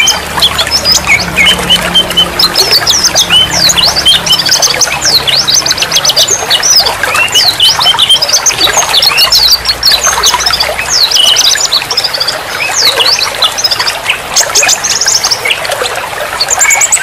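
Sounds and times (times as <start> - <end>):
songbirds chirping and twittering: 0.0 - 17.0.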